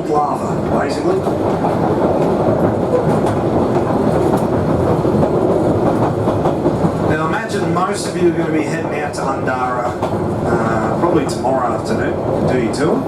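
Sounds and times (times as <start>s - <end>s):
rail motor rumbling along track: 0.0s - 13.0s
wheels clicking over rail joints: 0.0s - 13.0s.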